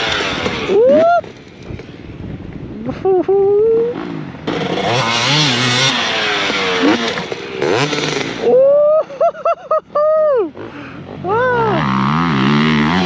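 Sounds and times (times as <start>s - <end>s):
dirt bike engine revving: 0.0s - 2.2s, 2.8s - 13.0s.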